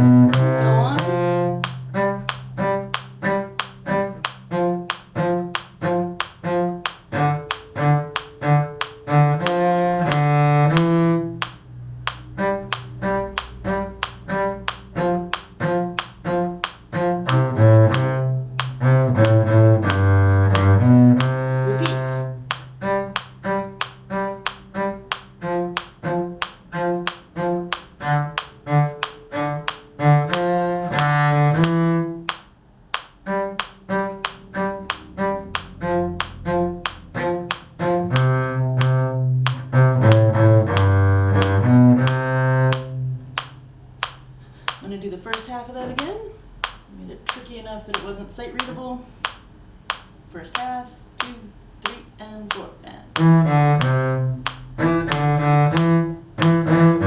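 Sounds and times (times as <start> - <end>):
bowed strings playing a tune: 0.0 - 44.5, 53.1 - 57.0
ticking beat: 0.0 - 57.0.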